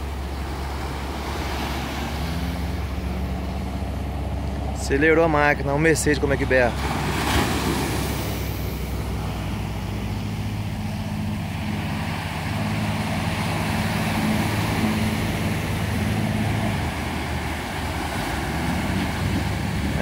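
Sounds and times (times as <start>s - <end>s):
boat diesel engine roaring: 0.0s - 20.0s
rushing water: 0.0s - 20.0s
wind: 0.0s - 20.0s.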